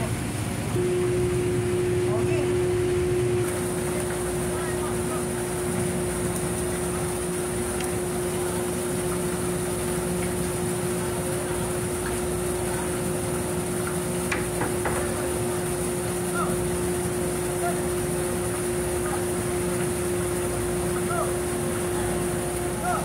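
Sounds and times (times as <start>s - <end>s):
machinery drone: 0.7s - 23.0s.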